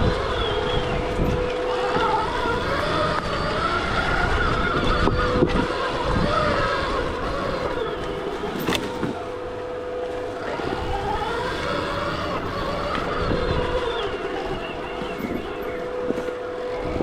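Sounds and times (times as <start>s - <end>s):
electric dirt bike motor whining: 0.0s - 17.0s
rumble of wind and terrain: 0.0s - 17.0s.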